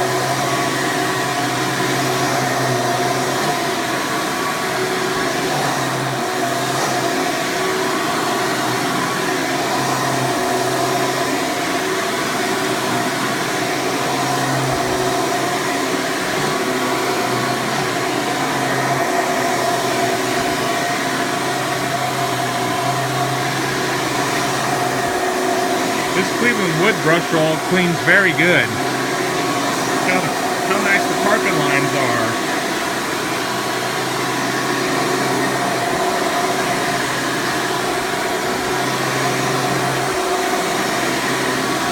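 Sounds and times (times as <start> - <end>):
upright vacuum cleaner running: 0.0 - 26.2, 28.8 - 31.2, 32.3 - 41.9.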